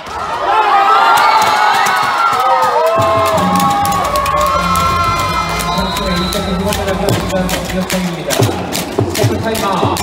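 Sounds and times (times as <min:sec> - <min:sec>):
crowd cheering and shouting: 0:00.0 - 0:10.0.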